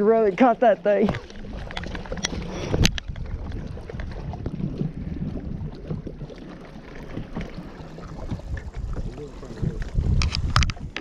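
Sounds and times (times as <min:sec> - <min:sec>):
wind rumbling on microphone: 0:01.0 - 0:11.0.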